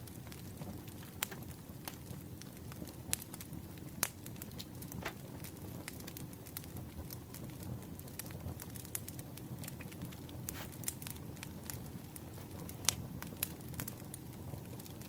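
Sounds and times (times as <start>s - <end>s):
campfire crackling: 0.0s - 15.0s
sharp pops from fire: 0.1s - 15.0s.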